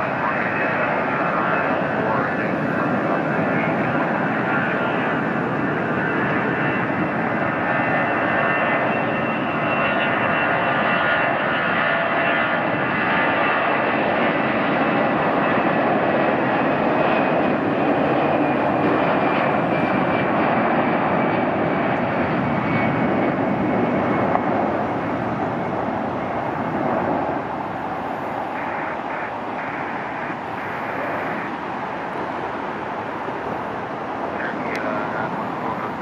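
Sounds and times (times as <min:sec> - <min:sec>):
faint high engine whine: 0:00.0 - 0:36.0
jet engines at takeoff: 0:00.0 - 0:36.0.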